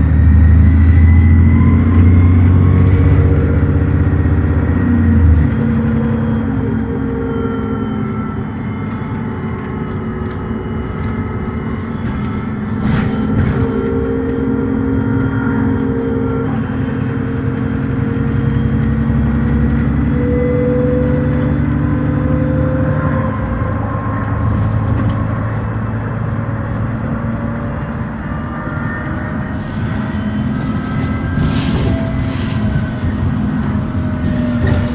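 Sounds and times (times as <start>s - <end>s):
bus diesel engine: 0.0s - 34.9s
transmission whine: 0.0s - 34.9s.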